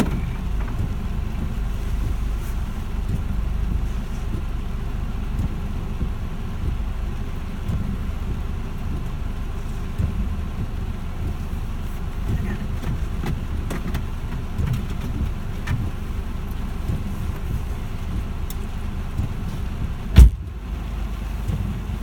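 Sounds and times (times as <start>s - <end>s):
car engine idling: 0.0s - 22.0s
rain tapping on car: 0.0s - 22.0s.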